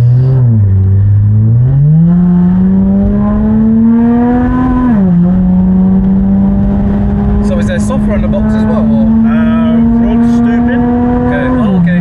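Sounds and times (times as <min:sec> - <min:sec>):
car engine revving in cabin: 0:00.0 - 0:12.0.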